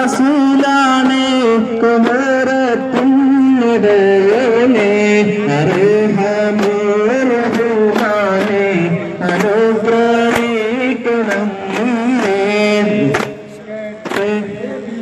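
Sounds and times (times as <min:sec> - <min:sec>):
devotional singing: 0:00.0 - 0:15.0
frame drums beating: 0:00.1 - 0:14.7.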